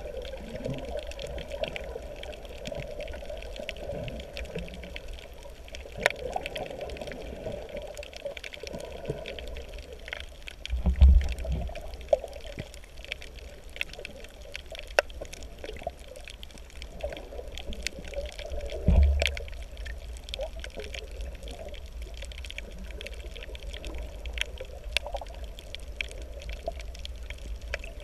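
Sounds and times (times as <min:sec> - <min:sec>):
underwater water noise: 0:00.0 - 0:28.0
sharp crackling clicks: 0:00.1 - 0:07.1, 0:07.8 - 0:28.0.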